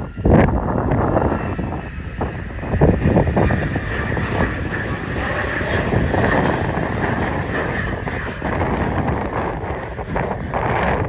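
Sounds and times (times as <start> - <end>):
jet engines rumbling and whining: 0.0 - 11.0.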